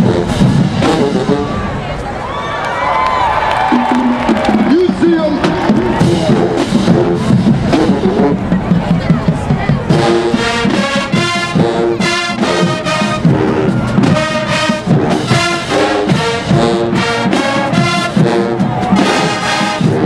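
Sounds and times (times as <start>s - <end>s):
marching band brass chords: 0.0s - 2.0s, 3.2s - 20.0s.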